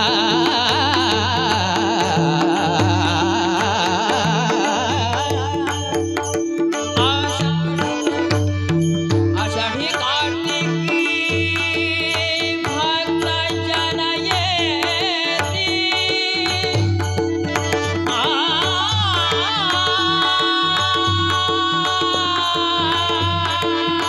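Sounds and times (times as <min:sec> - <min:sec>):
tabla strokes: 0:00.0 - 0:24.0.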